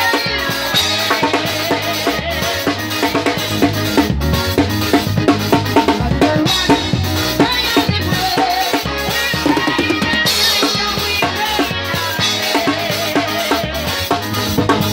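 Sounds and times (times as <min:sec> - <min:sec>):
drum kit beat: 0:00.0 - 0:14.9
gospel band playing: 0:00.0 - 0:14.9.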